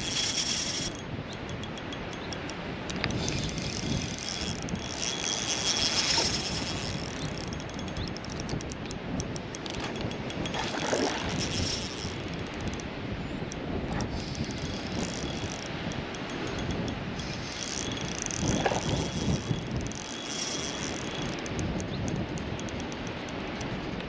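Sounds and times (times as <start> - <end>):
fishing reel gears ticking: 0.0 - 12.9, 13.5 - 24.0
wind buffeting microphone: 0.0 - 24.0.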